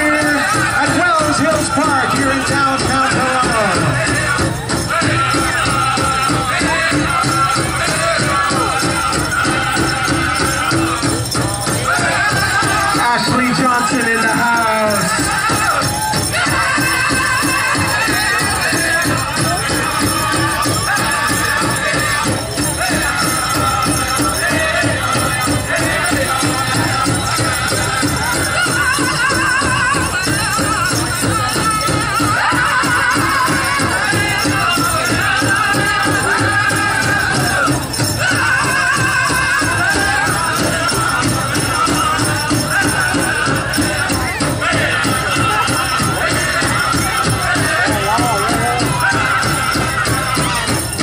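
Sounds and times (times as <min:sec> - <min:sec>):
group singing in high voices: 0:00.0 - 0:51.0
jingling bells: 0:00.0 - 0:51.0
large drum steady beat: 0:00.0 - 0:51.0.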